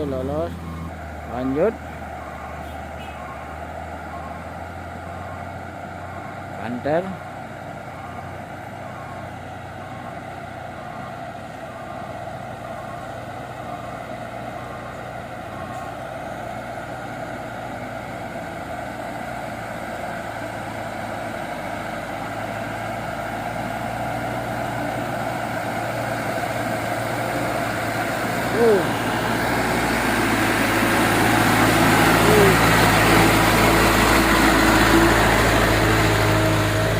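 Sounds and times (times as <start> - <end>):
diesel truck engine pulling uphill: 0.0 - 36.9.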